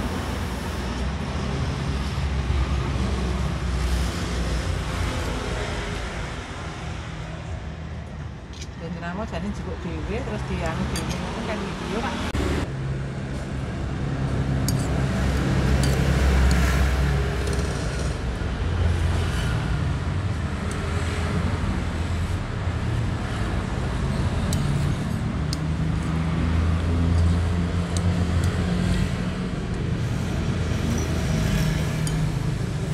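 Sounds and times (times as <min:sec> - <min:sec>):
road traffic going by: 0:00.0 - 0:32.9.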